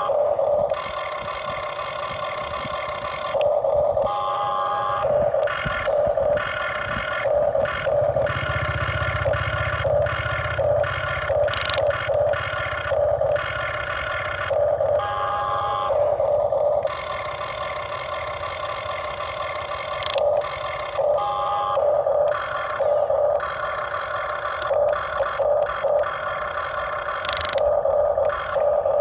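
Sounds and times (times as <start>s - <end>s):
electric gear motors whining: 0.0s - 29.0s.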